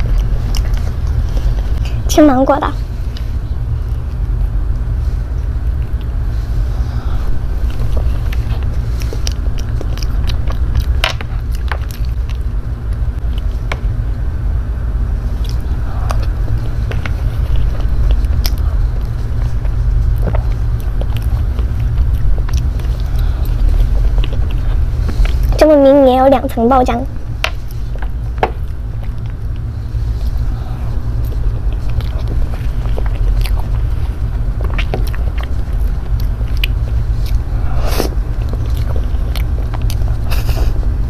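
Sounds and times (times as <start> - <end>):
chewing and mouth sounds: 0.0 - 14.2, 15.3 - 25.9, 27.2 - 41.0
steady low rumble: 0.0 - 41.0.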